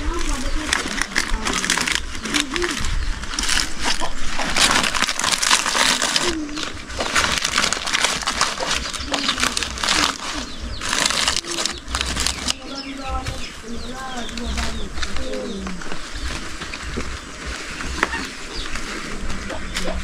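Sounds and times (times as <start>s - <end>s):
leaves crackling and rustling: 0.0s - 20.0s.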